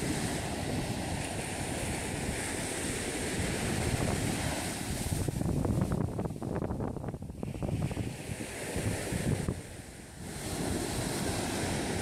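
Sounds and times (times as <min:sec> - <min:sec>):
sea waves washing: 0:00.0 - 0:12.0
wind rumbling on microphone: 0:00.0 - 0:12.0.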